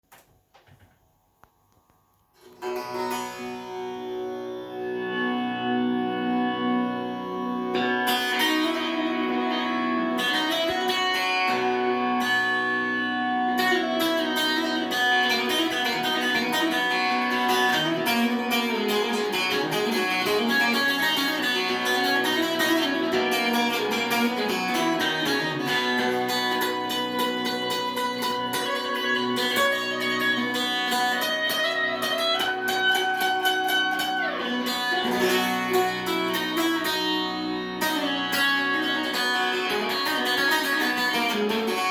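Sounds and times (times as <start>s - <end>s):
guitar music: 1.8s - 41.9s.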